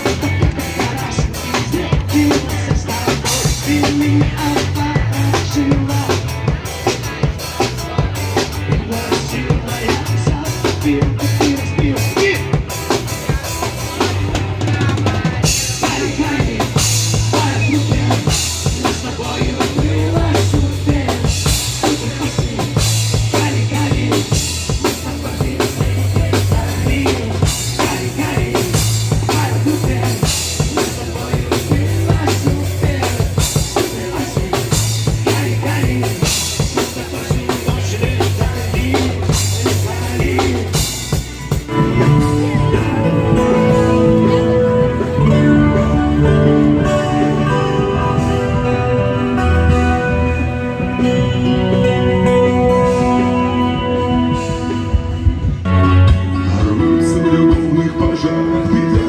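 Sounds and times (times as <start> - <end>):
bass line: 0.0 - 59.0
drum kit beat: 0.0 - 59.0.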